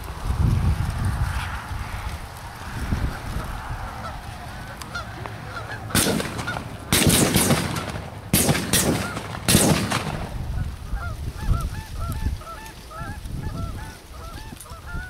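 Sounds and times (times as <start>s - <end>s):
geese honking: 2.6s - 15.0s.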